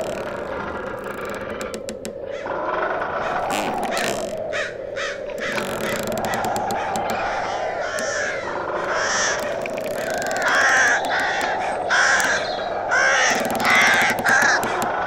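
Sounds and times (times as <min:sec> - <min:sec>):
crows cawing: 0:01.6 - 0:15.0.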